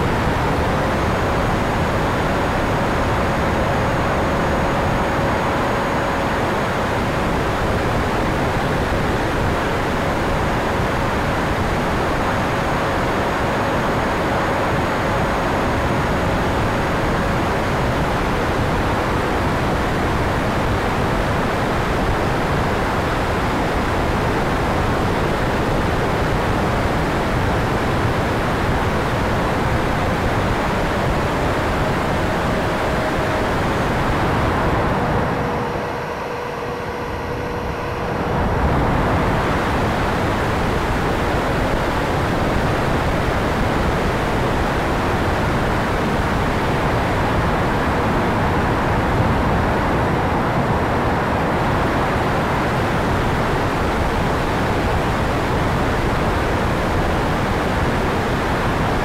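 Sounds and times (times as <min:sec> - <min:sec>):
electric jet fan rushing: 0:00.0 - 0:59.0.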